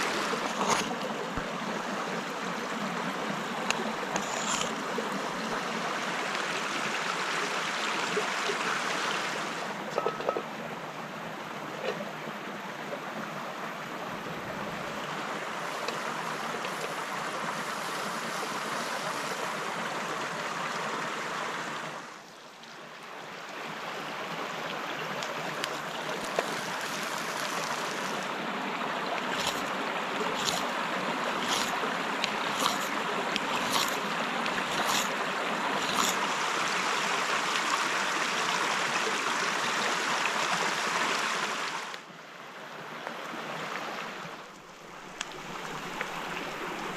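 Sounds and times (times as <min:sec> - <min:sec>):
rushing water: 0:00.0 - 0:46.9.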